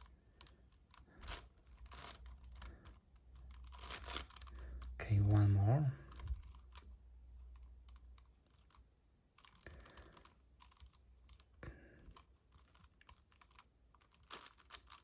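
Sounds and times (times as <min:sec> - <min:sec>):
puzzle cube clicking: 0:00.0 - 0:05.4, 0:06.1 - 0:15.0.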